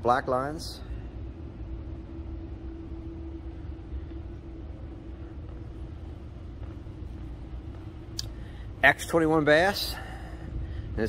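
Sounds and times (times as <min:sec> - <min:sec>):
faint steady hum: 0:00.0 - 0:11.0
low ventilation rumble: 0:00.0 - 0:11.0.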